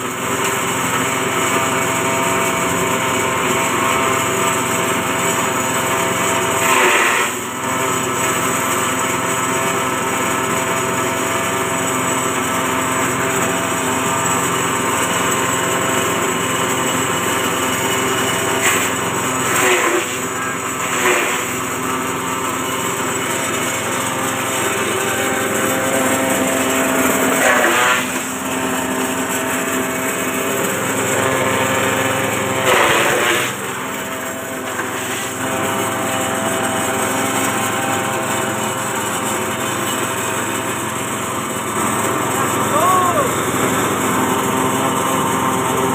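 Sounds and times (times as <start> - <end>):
forage chopper engine running: 0.0 - 45.9
grass stalks being cut: 0.3 - 9.0, 10.6 - 45.9.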